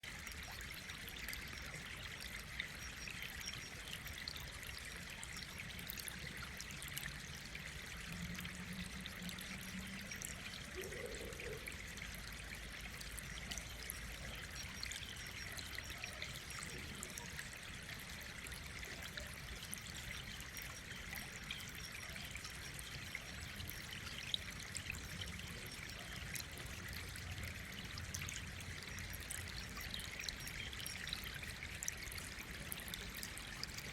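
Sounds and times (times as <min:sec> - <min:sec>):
faint running water: 0:00.0 - 0:33.9.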